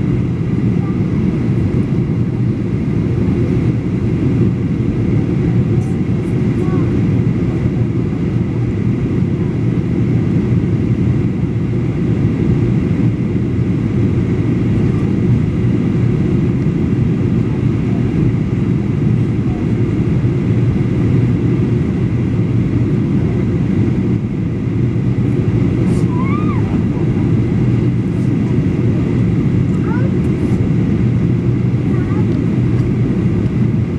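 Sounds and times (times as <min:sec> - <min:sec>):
aircraft cabin engine rumble: 0:00.0 - 0:33.9.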